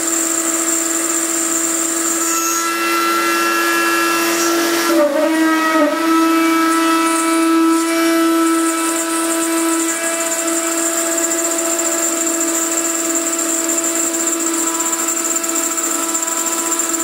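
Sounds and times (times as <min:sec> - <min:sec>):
router spindle high-pitched whine: 0:00.0 - 0:17.0.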